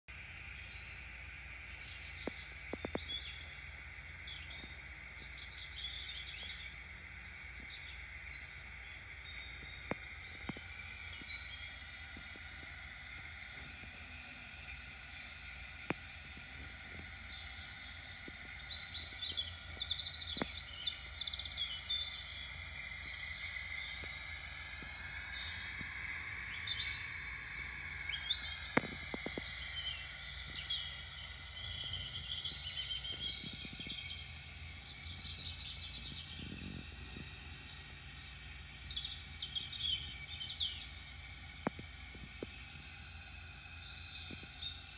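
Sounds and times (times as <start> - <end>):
birds chirping and twittering: 0.1 - 44.9
high insect drone: 0.1 - 44.9.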